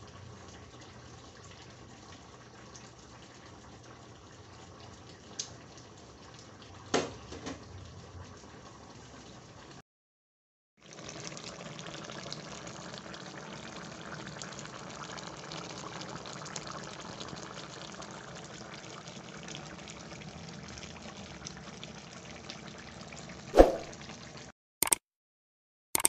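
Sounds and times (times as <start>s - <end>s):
food simmering and bubbling: 0.0s - 9.8s, 10.8s - 24.5s.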